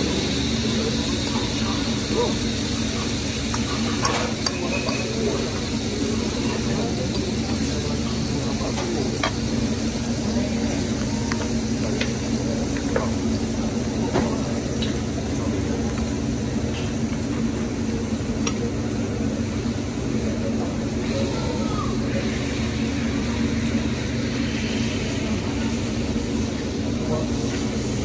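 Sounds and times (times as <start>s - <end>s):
low hum of restaurant: 0.0s - 28.0s.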